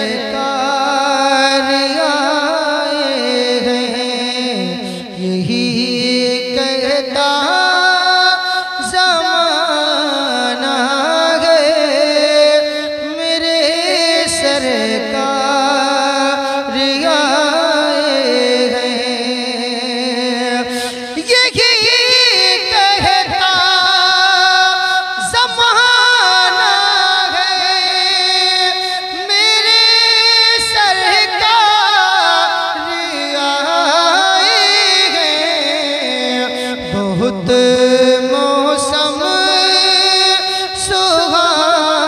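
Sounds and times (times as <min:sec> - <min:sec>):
man singing devotional song: 0:00.0 - 0:42.0.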